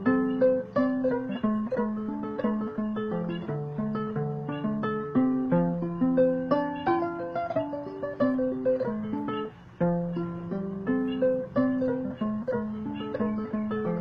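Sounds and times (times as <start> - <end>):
harp plucked melody: 0.0 - 14.0.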